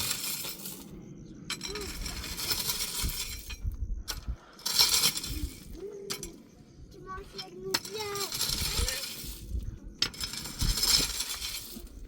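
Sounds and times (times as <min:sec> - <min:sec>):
gritty scraping and rattling: 0:00.0 - 0:12.0.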